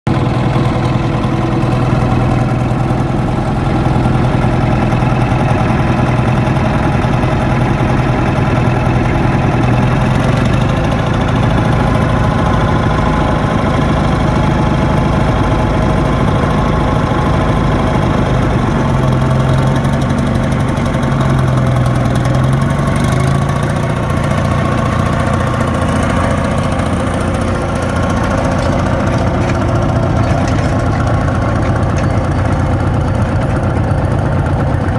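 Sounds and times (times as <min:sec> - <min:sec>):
tractor engine running: 0:00.1 - 0:34.9.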